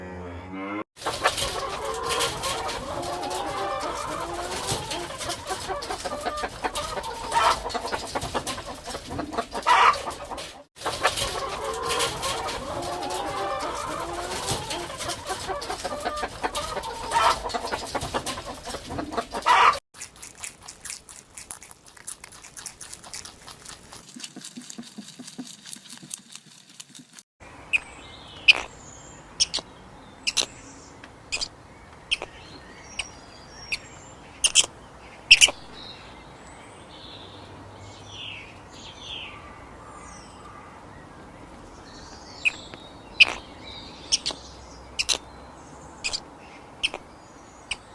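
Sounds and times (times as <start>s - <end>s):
chickens clucking: 0.6s - 25.5s, 27.5s - 36.3s, 38.5s - 45.3s, 46.0s - 47.9s.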